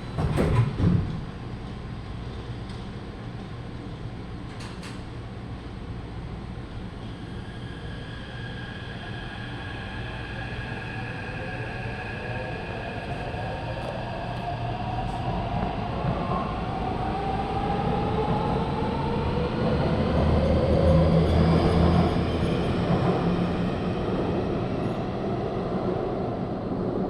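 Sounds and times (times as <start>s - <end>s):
rail running noise: 0.0s - 27.0s.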